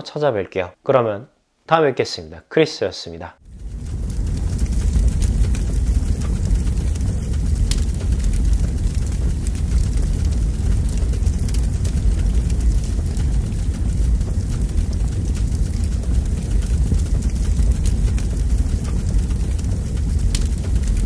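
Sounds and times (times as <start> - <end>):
crackling wood fire: 3.4 - 21.0.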